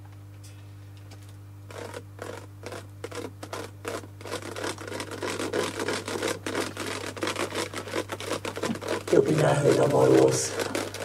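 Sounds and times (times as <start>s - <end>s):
low electrical hum: 0.0s - 11.0s
scratching and crackling: 1.1s - 11.0s.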